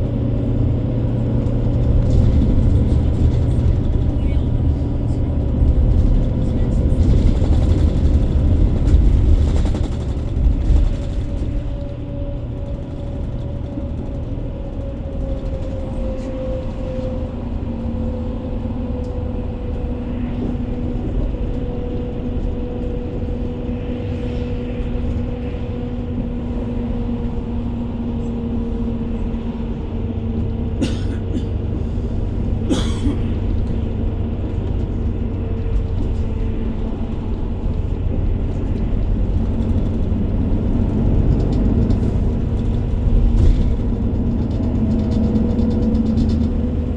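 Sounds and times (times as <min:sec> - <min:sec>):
vehicle engine rumbling: 0:00.0 - 0:46.9.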